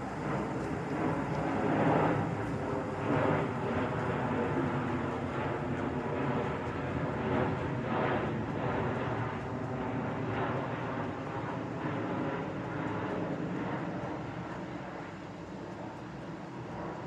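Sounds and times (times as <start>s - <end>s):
jet engines rumbling overhead: 0.0s - 17.0s.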